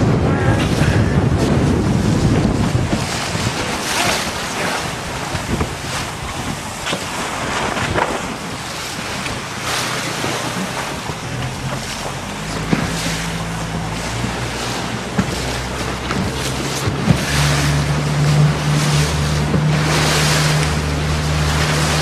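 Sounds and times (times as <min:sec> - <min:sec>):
choppy water against hull: 0:00.0 - 0:22.0
wind buffeting microphone: 0:00.0 - 0:22.0
sharp splashes: 0:02.1 - 0:22.0.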